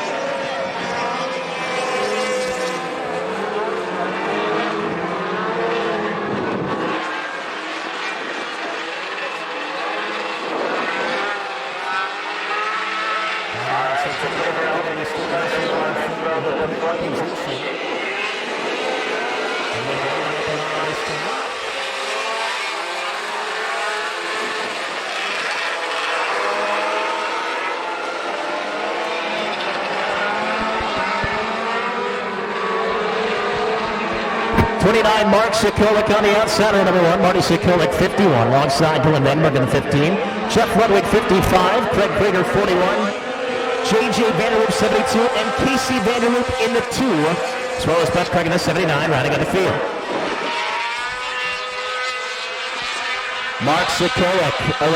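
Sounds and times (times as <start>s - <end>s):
racing truck engines: 0.0s - 54.9s.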